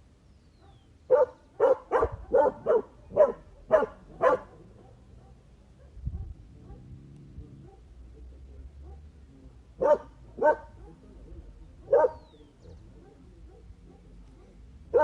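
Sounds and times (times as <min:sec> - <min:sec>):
dog barking: 0:00.6 - 0:07.9, 0:08.8 - 0:09.1, 0:09.8 - 0:11.2, 0:11.8 - 0:15.0.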